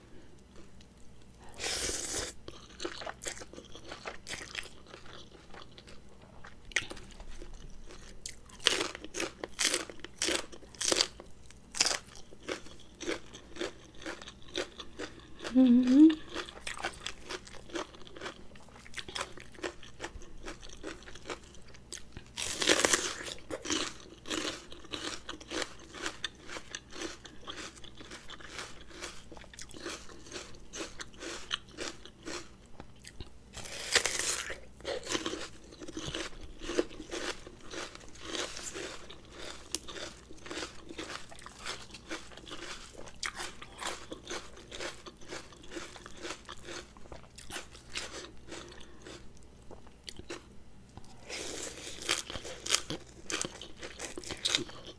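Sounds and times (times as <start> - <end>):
person chewing and crunching: 0.1 - 54.9.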